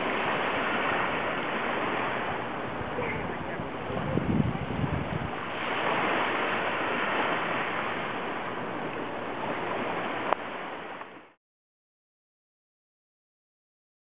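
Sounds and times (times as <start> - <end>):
small waves washing on sand: 0.0 - 11.4.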